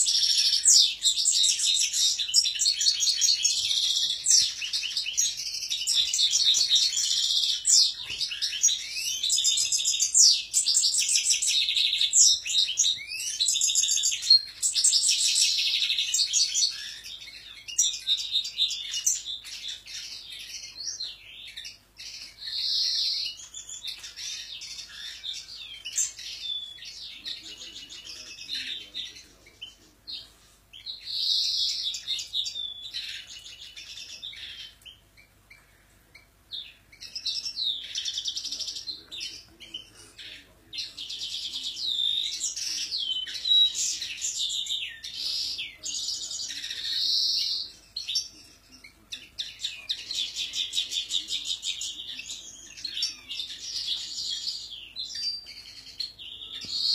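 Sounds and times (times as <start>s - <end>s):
finches twittering song: 0.0s - 56.9s.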